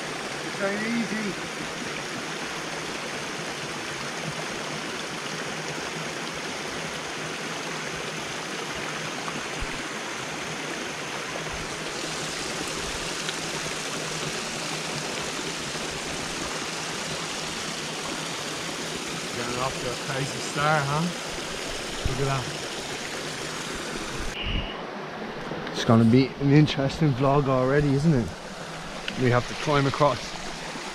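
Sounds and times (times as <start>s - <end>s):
stream rushing over stones: 0.0s - 30.9s.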